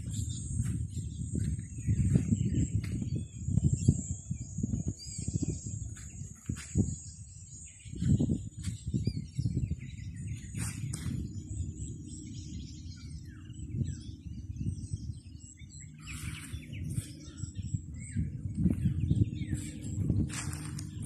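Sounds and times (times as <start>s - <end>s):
constant low rumble: 0.0s - 21.0s
small birds chirping: 0.0s - 21.0s.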